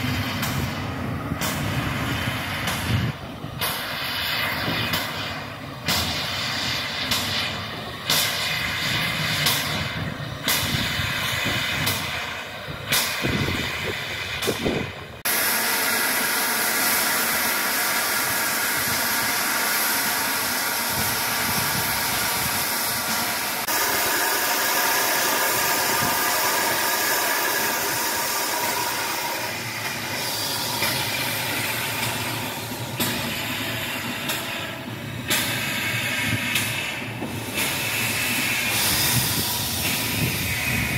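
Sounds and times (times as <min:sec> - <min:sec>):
loud hiss of escaping steam: 0:00.0 - 0:40.9
short bursts of steam: 0:00.0 - 0:40.9.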